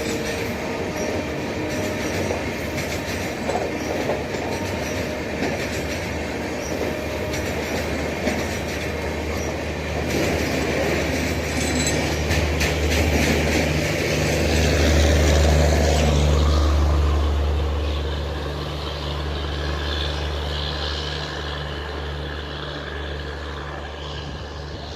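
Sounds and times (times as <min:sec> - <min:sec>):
deep diesel engine hum: 0:00.0 - 0:24.9
rail clicks: 0:00.0 - 0:24.9
wheels rumbling on rail: 0:00.0 - 0:24.9.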